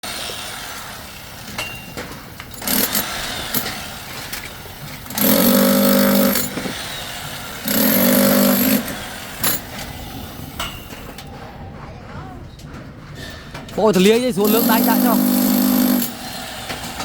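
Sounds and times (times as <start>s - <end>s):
machine humming with hiss: 0.0s - 17.0s.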